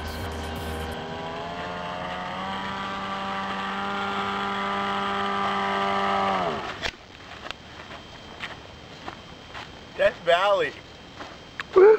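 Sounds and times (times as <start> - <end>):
model airplane motor buzzing: 0.0 - 10.7.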